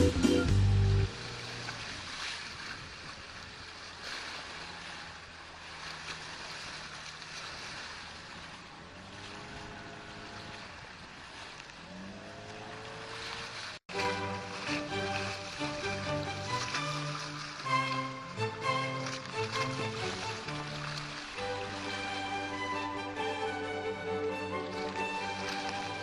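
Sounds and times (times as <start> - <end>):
faint boat motor hum: 0.0 - 26.0
sea water rushing: 0.0 - 26.0.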